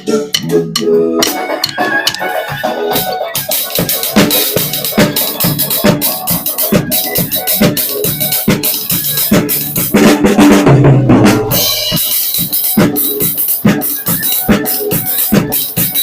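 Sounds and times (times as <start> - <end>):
bass line: 0.0 - 13.0
drum kit beat: 0.0 - 16.0.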